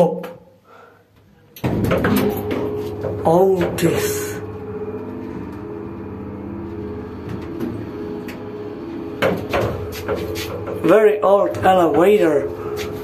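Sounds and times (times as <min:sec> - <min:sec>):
elevator humming: 0:01.2 - 0:13.0.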